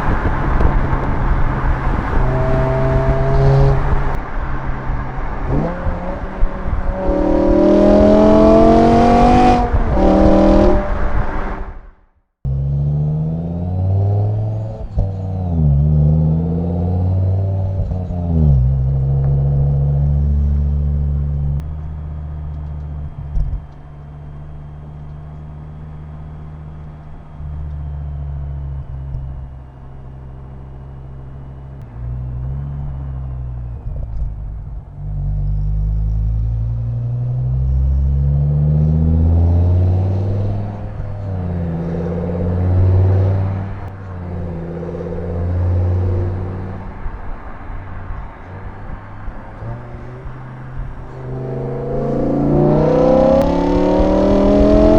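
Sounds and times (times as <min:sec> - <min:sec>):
car engine revving and accelerating: 0:00.0 - 0:11.9, 0:12.5 - 0:54.9.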